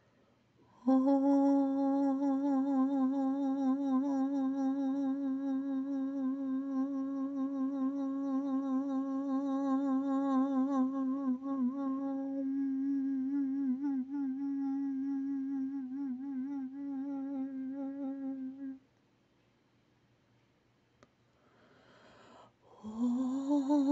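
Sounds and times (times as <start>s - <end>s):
person humming low note: 0.7s - 18.8s, 22.8s - 23.9s.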